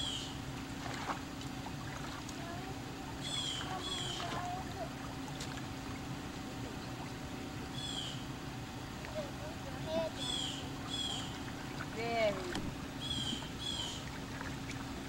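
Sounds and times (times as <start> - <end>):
pool water lapping: 0.0 - 15.0
steady hum: 0.0 - 15.0.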